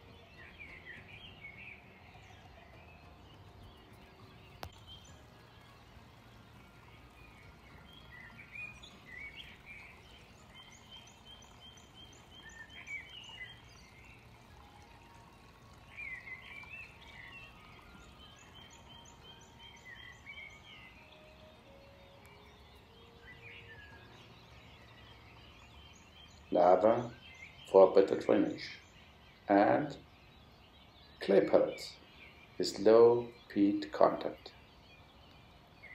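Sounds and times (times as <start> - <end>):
low outdoor hum: 0.0 - 35.9
songbirds singing: 0.0 - 35.9.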